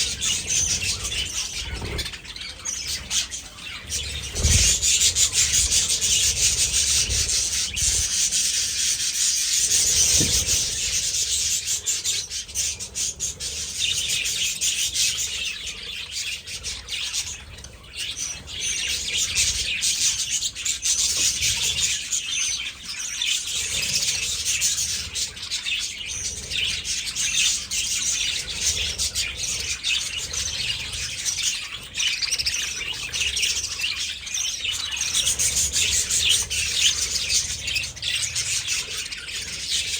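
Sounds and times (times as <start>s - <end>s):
budgies chattering: 0.0s - 39.9s.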